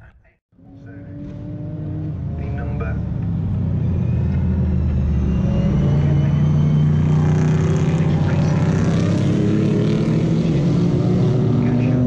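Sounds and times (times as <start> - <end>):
race cars passing: 0.6 - 12.0.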